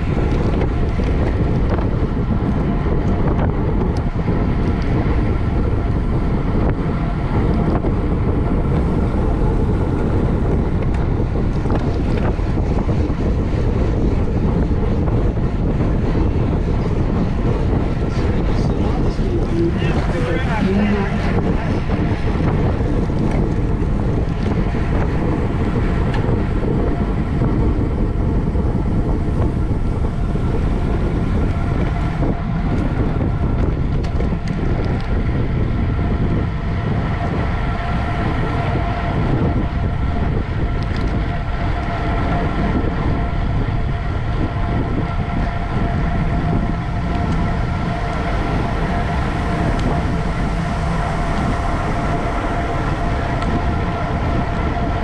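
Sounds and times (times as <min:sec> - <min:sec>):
steady whining hum: 0:00.0 - 0:55.0
wind buffeting microphone: 0:00.0 - 0:55.0.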